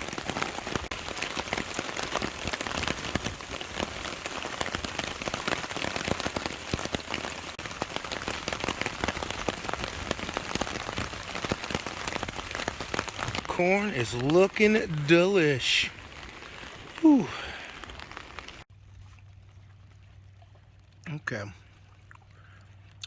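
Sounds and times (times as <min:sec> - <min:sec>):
rain hissing: 0:00.0 - 0:18.7
raindrops tapping on tarp: 0:00.0 - 0:23.0.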